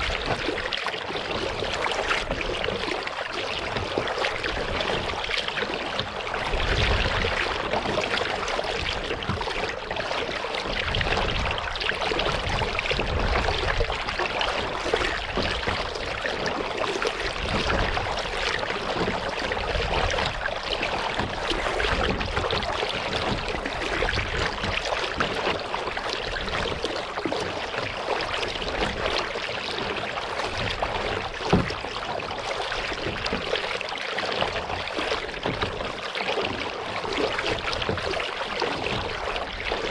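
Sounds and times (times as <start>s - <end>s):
paddle blades dipping: 0.0s - 39.9s
water washing along hull: 0.0s - 39.9s.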